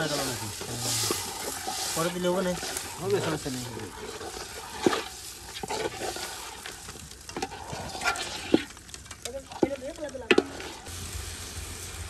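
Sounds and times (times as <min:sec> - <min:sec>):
spatula scraping a metal pot: 0:00.0 - 0:10.9
food sizzling in a pot: 0:00.0 - 0:12.0.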